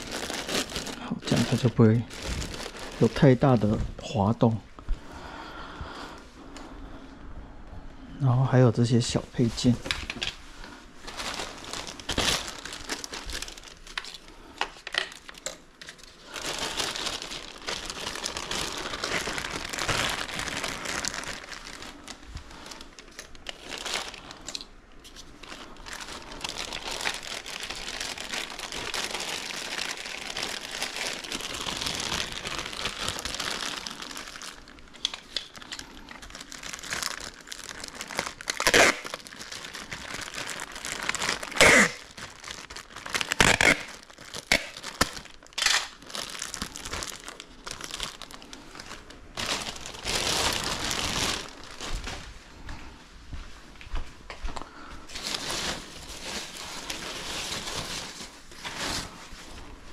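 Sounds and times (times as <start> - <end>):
plastic wrap crinkling: 0.0 - 4.6, 8.4 - 52.6, 55.1 - 59.9.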